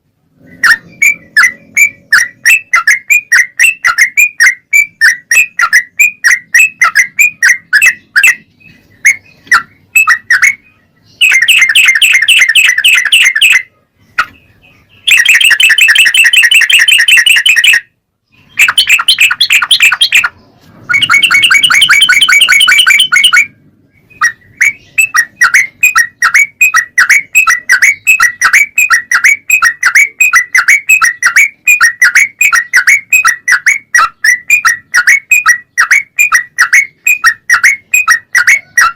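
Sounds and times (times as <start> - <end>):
bird rapid chatter: 0.3 - 38.9
bird singing quick notes: 0.4 - 38.9.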